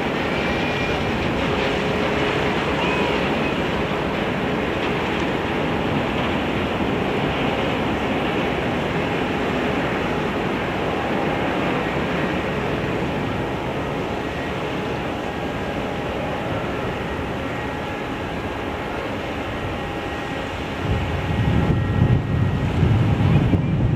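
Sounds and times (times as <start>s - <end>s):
ferry engines running: 0.0s - 23.9s
strong wind on microphone: 0.0s - 23.9s.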